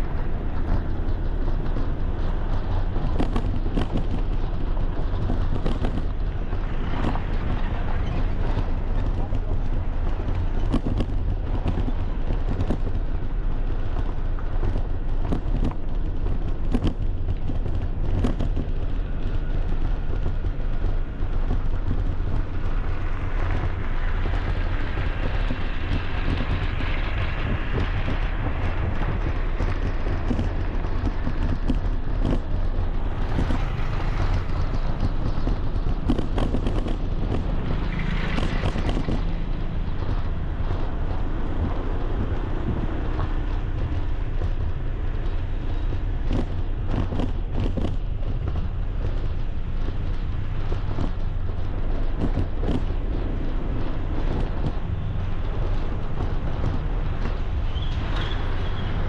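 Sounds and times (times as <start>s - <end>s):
street traffic: 0.0s - 59.0s
wind buffeting microphone: 0.0s - 59.0s.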